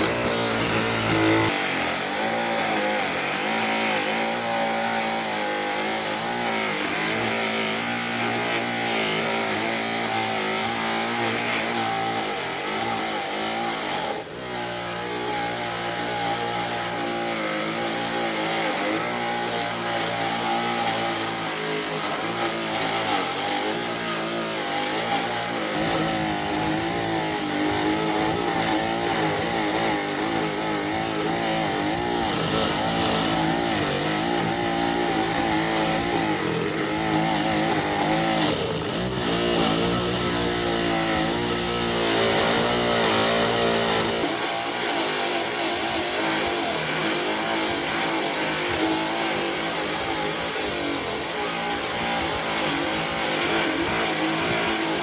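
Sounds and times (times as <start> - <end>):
power tool motor running: 0.0 - 55.0.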